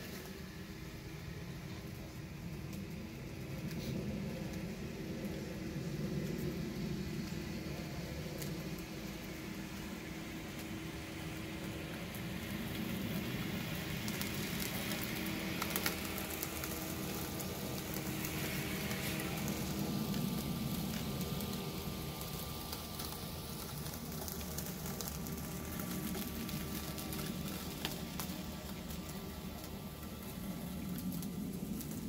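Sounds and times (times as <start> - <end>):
blades cutting grass: 0.0 - 32.0
crackle with small ticks: 1.7 - 32.0.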